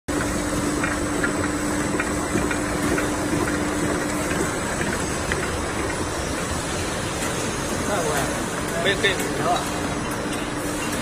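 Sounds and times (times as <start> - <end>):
machinery with light ticks: 0.1 - 11.0.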